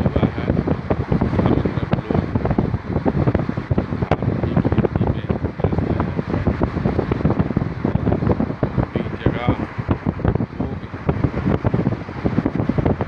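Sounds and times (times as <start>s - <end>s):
dull low rumble: 0.0s - 13.0s
wind buffeting microphone: 0.0s - 13.0s.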